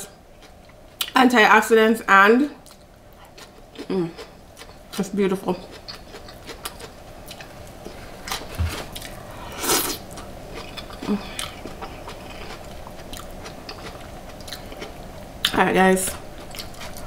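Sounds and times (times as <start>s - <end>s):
crunching and chewing cabbage: 0.3s - 1.2s, 2.6s - 5.0s, 5.6s - 17.0s.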